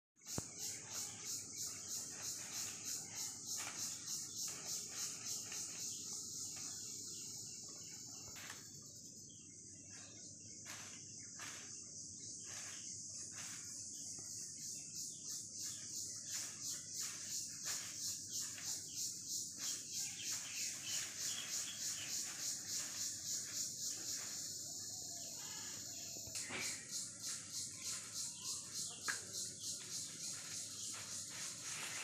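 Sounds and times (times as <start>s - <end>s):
insects chirping: 0.2s - 32.0s.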